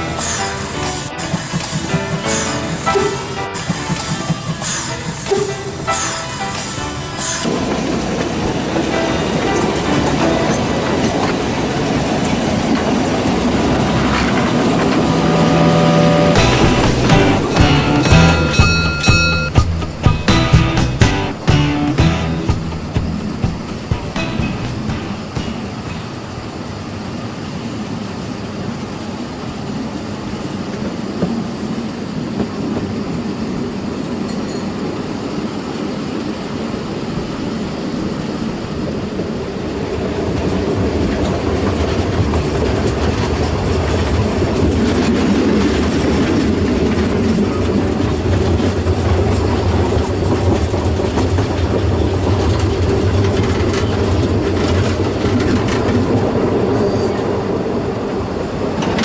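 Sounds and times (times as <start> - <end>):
train wheels clattering over rails: 0.0 - 15.5, 16.4 - 27.0, 37.3 - 59.0.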